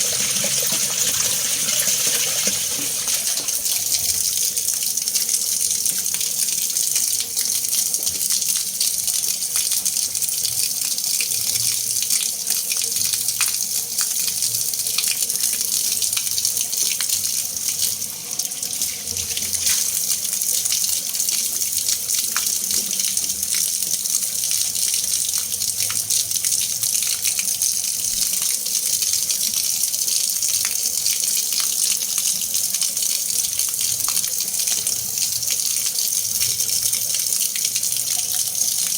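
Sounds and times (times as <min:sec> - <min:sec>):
water running and splashing: 0:00.0 - 0:38.9.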